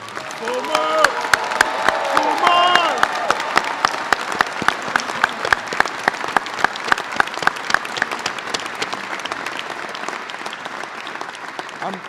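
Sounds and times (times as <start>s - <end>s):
crowd applauding: 0.0s - 12.0s
nearby person clapping: 0.0s - 12.0s.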